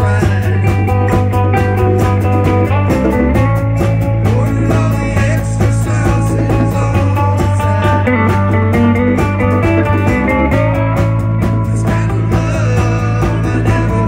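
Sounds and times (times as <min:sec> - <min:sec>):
bass line: 0:00.0 - 0:14.0
drum kit beat: 0:00.0 - 0:14.0
electric guitars: 0:00.0 - 0:14.0.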